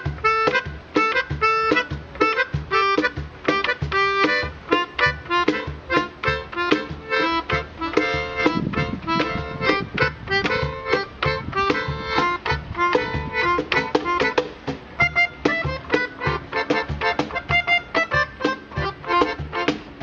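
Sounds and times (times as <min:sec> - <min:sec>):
cajon thumps: 0:00.0 - 0:20.0
melodica playing: 0:00.0 - 0:20.0.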